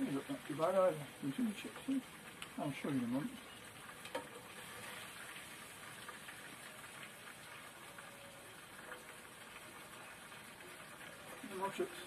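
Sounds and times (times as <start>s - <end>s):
chips frying in oil: 0.0s - 12.0s.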